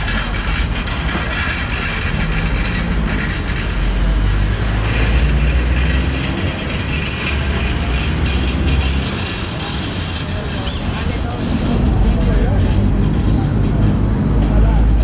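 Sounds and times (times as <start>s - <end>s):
busy outdoor background noise: 0.0s - 15.0s
low engine rumble: 0.0s - 15.0s.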